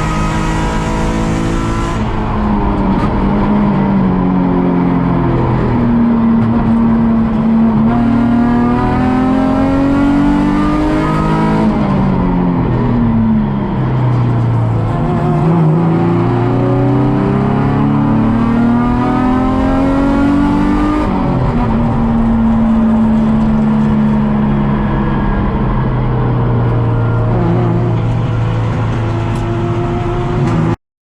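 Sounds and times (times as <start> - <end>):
race car engine revving: 0.0 - 30.8.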